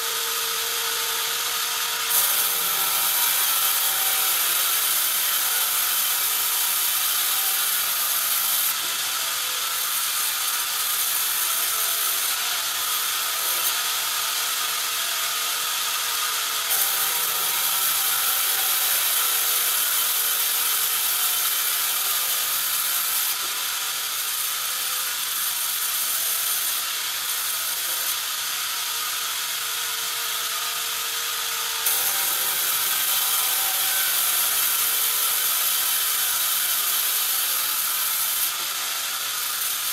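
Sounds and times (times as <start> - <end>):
saw carriage mechanism running: 0.0 - 13.8, 15.2 - 23.5, 29.6 - 39.9
band saw cutting wood: 0.0 - 39.9.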